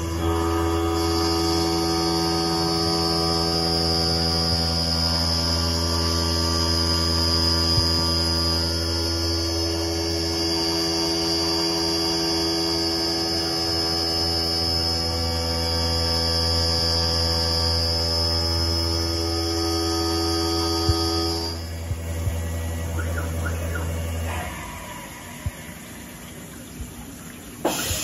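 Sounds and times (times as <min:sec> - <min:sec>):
high-pitched spindle whine: 0:00.0 - 0:28.0
milling machine humming: 0:00.0 - 0:28.0.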